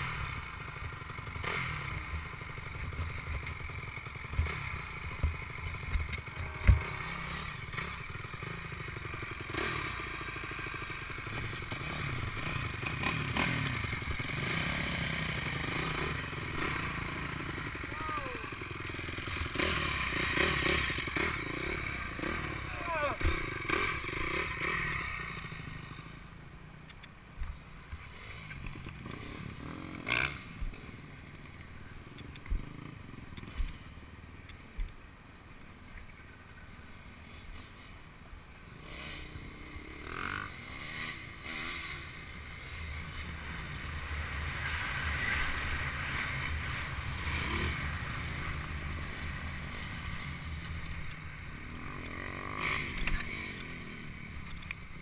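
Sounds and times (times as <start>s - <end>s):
dirt bike engine revving: 0.0s - 26.3s, 28.0s - 31.0s, 38.8s - 55.0s.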